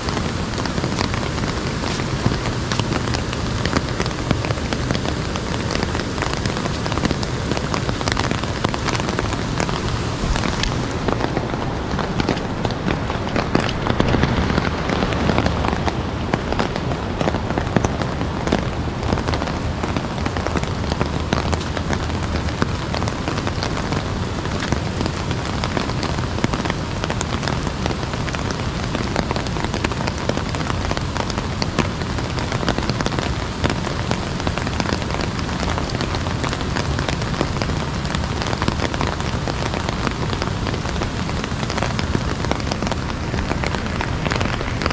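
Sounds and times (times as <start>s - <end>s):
heavy rain on umbrella: 0.0s - 44.9s.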